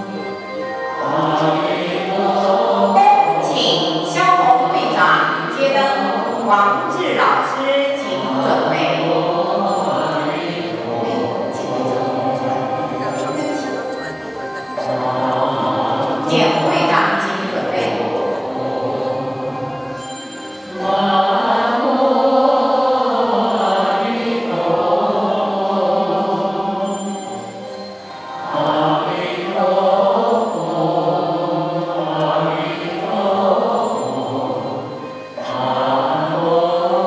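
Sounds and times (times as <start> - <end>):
slow melodic chanting: 0.0 - 37.0.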